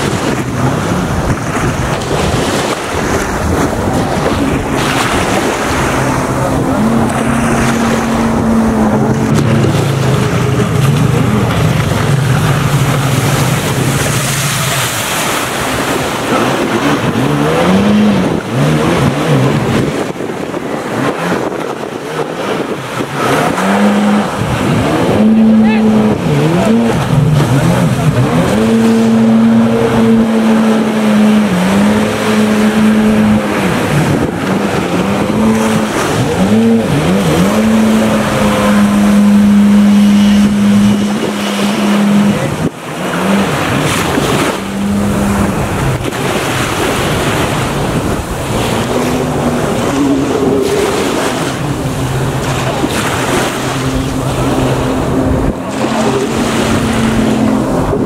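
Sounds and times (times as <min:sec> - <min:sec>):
jet ski engine running: 0:00.0 - 0:58.0
spray and choppy water: 0:00.0 - 0:58.0.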